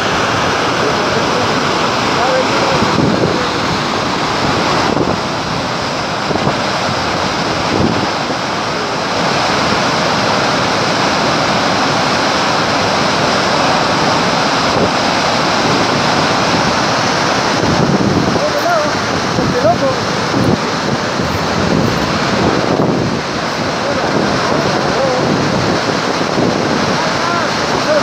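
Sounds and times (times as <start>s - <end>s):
floodwater rushing over waterfall: 0.0s - 28.0s.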